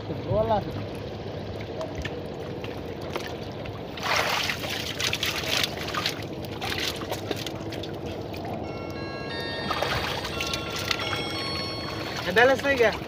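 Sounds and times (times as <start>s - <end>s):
water sloshing and splashing: 0.4s - 8.7s, 9.4s - 13.0s.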